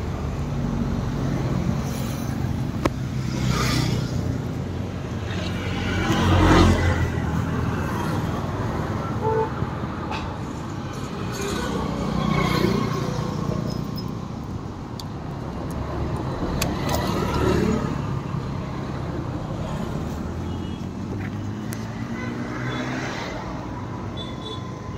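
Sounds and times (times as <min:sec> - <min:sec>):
low rumble of traffic: 0:00.0 - 0:24.9
vehicles passing: 0:00.0 - 0:24.9.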